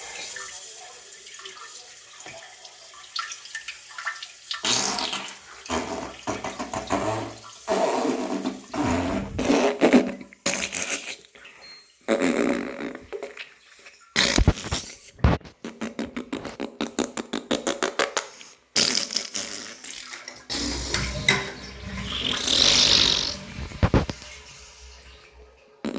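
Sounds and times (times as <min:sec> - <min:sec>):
trickle of running water: 0:00.0 - 0:15.4, 0:19.3 - 0:25.9
wet farting and spluttering: 0:04.0 - 0:25.9.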